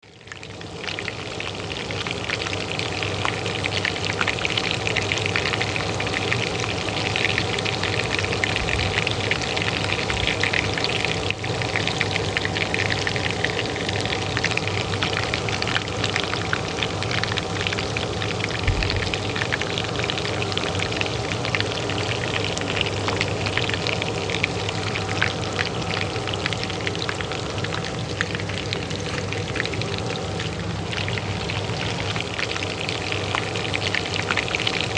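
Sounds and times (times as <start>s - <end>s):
oil sizzling in a pan: 0.0s - 34.9s
range hood fan hum: 0.0s - 34.9s.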